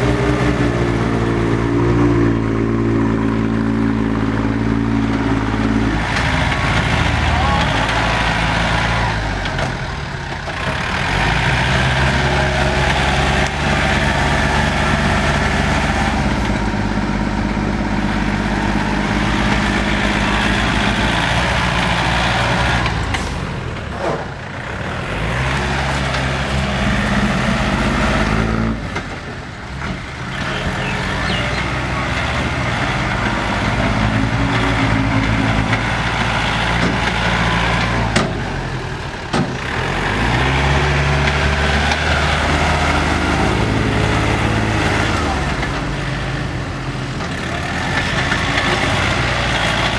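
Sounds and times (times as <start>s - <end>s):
tractor diesel engines running hard: 0.0s - 49.9s.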